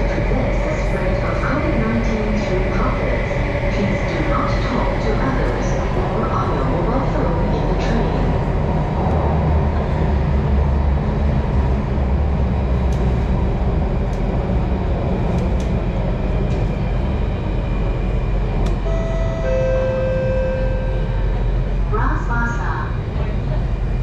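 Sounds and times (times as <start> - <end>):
train rumble inside carriage: 0.0 - 24.0.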